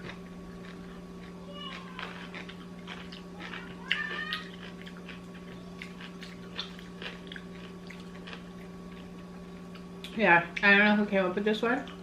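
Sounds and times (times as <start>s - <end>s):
person chewing with crunches: 0.0s - 10.7s
electrical hum: 0.0s - 12.0s.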